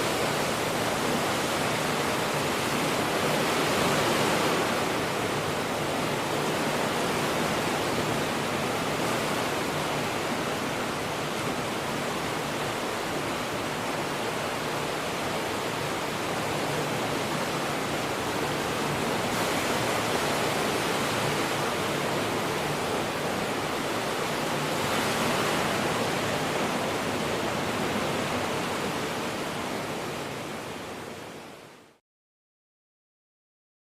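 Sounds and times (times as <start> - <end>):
ocean surf rushing: 0.0 - 31.6.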